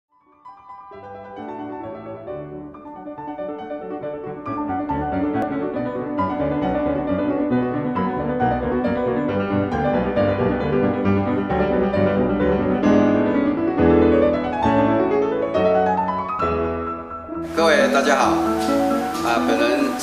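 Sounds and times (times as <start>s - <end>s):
background piano music: 0.1s - 20.0s.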